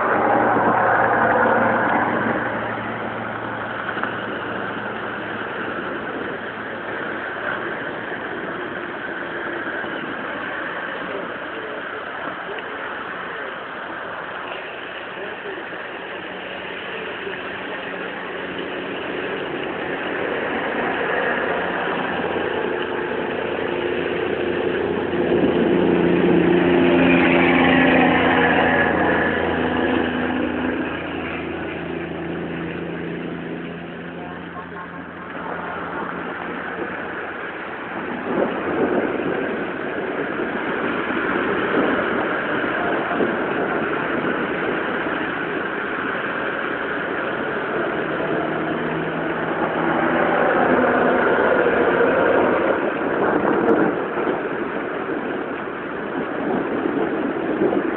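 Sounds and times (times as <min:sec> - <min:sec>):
continuous hiss: 0:00.0 - 0:57.9
steady rain falling: 0:00.0 - 0:57.9
vehicle engine humming: 0:00.0 - 0:57.9.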